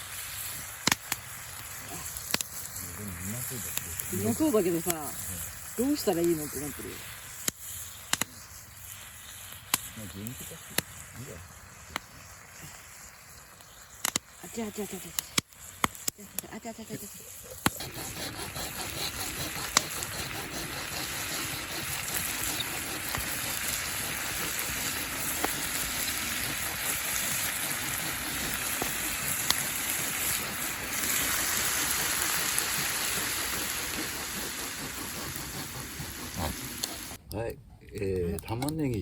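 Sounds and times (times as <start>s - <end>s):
food sizzling in a pan: 0.0s - 37.2s
sharp pops: 0.6s - 6.7s, 7.3s - 37.2s.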